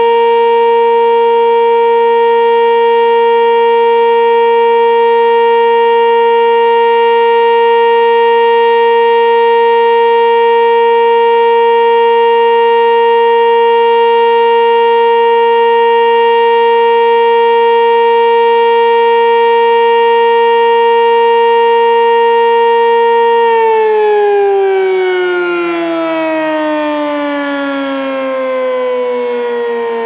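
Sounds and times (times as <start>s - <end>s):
warning siren steady tone: 0.0s - 30.0s.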